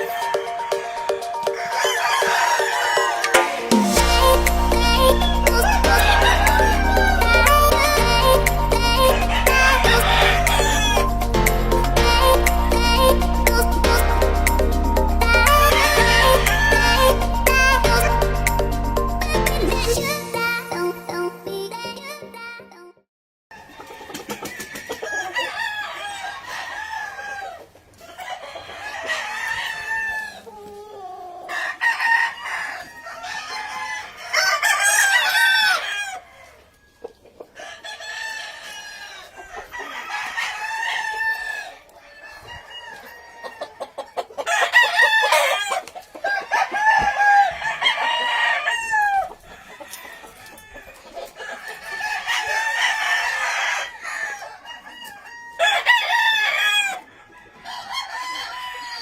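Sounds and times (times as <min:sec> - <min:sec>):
roosters crowing: 0:00.0 - 0:19.9, 0:23.5 - 0:59.0.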